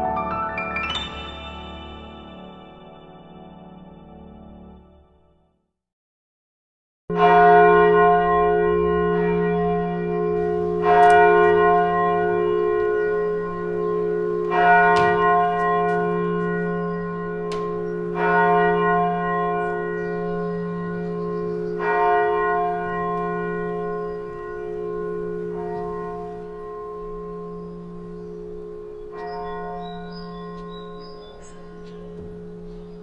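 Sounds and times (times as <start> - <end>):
church bell tolling: 0.8 - 4.1, 7.1 - 33.0.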